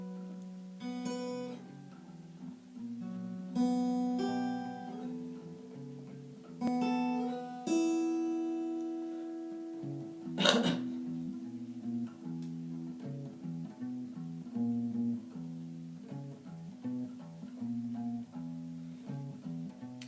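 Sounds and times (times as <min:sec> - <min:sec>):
acoustic guitar strummed chords: 0:00.0 - 0:20.0.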